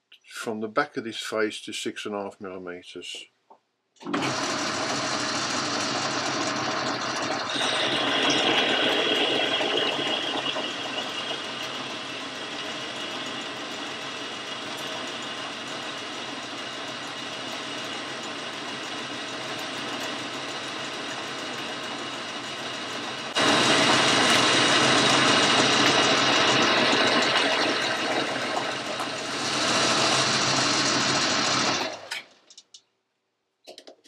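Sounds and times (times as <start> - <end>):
metal lathe turning steel: 4.0 - 32.2.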